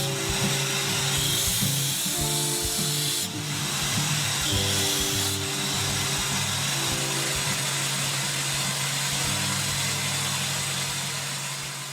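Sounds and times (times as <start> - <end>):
electric motor humming: 0.0 - 11.9
sanding belt hiss: 0.0 - 11.9.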